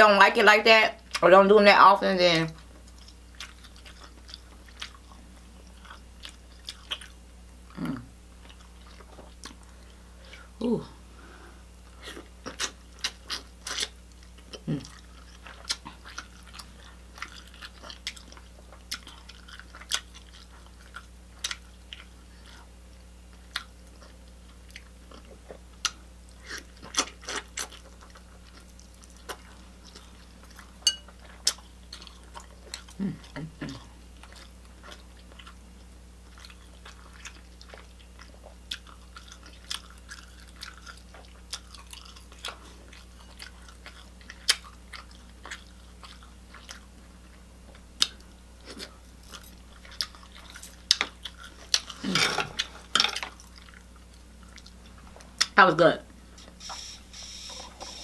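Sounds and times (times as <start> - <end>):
chewing and smacking: 2.5 - 10.5, 11.8 - 55.6.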